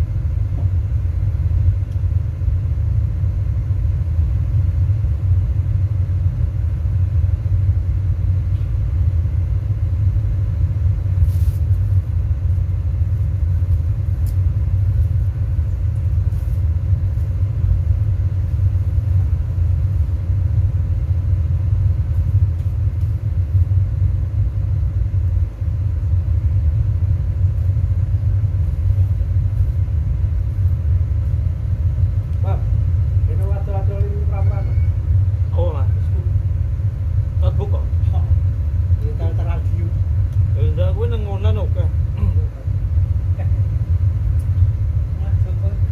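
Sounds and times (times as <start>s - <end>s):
deep subwoofer rumble: 0.0s - 45.9s.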